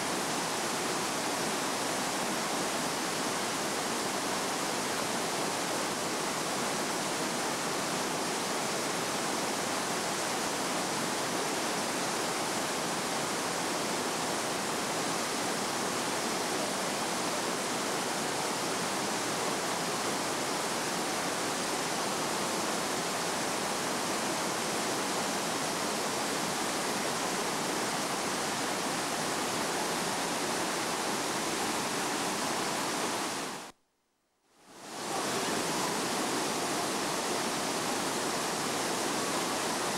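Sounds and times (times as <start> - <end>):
waterfall rushing: 0.0 - 33.7, 34.8 - 39.9.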